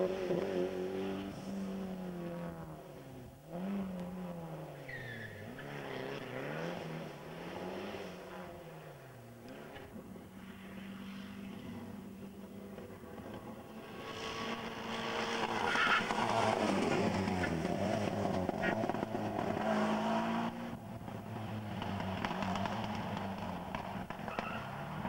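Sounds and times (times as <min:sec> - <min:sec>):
rally car engines at high revs: 0:00.0 - 0:25.0.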